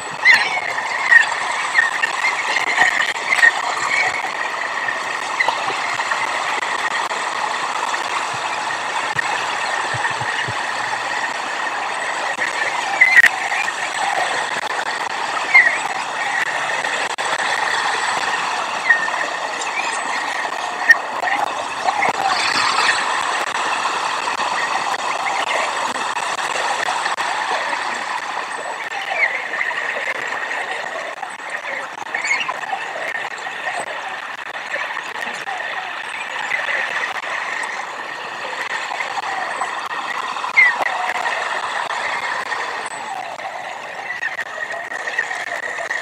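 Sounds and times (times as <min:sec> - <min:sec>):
rushing outdoor noise: 0:00.0 - 0:46.0.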